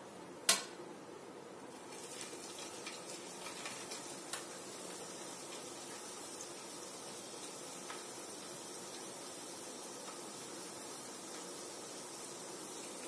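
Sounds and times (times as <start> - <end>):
dough sizzling in hot oil: 1.7 - 13.0.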